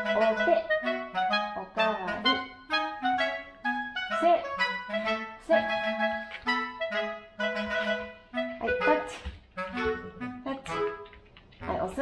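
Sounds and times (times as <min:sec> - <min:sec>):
low musical accompaniment: 0:00.0 - 0:12.0
woodwind melody: 0:00.0 - 0:12.0.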